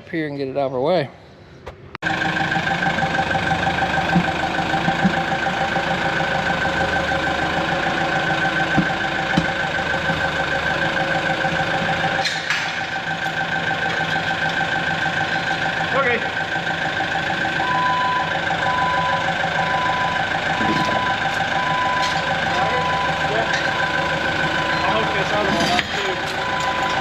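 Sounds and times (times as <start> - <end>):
diesel engine idling: 2.0 - 27.0
steady whine: 2.1 - 27.0.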